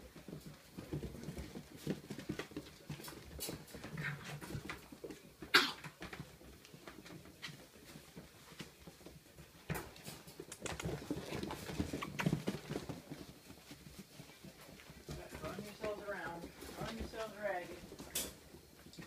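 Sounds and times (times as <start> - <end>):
paws clicking on wooden floor: 0.0 - 19.0
puppies scuffling: 0.0 - 19.0.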